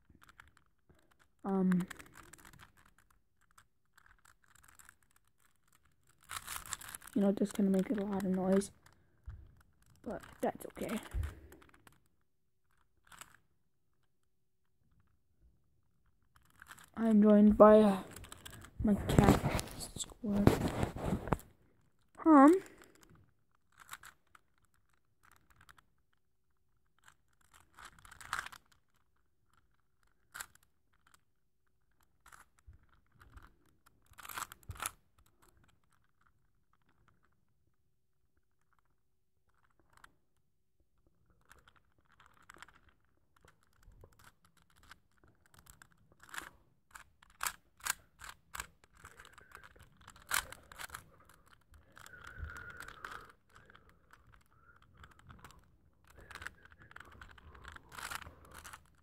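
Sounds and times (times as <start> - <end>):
plastic cube clicking and scraping: 0.0 - 59.0.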